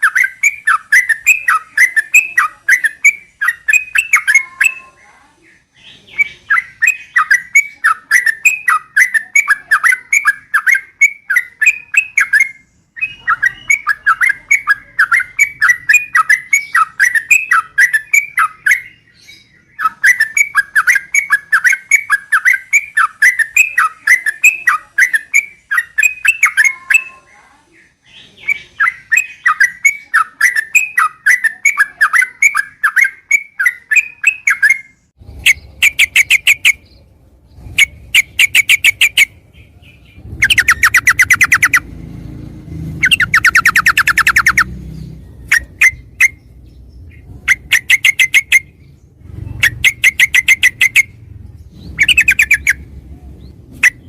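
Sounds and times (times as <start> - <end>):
bird singing bubbly chattering notes: 0.0 - 4.9, 6.1 - 27.1, 28.4 - 41.9, 43.0 - 54.0.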